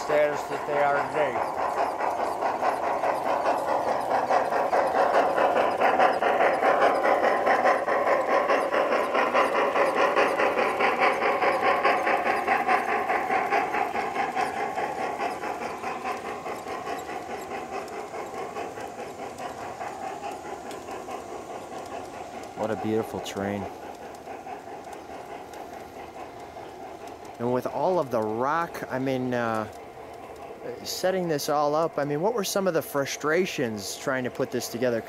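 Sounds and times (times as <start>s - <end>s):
model train clattering: 0.0s - 35.0s.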